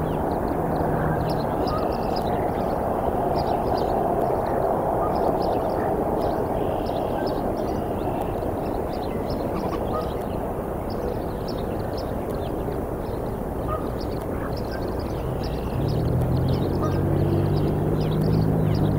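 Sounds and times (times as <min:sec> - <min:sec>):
low outdoor rumble: 0:00.0 - 0:18.9
small birds chirping: 0:00.0 - 0:18.9.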